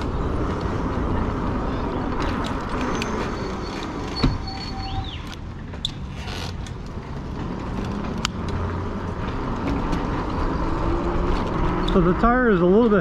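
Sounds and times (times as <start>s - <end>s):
wind and road rumble: 0.0s - 13.0s.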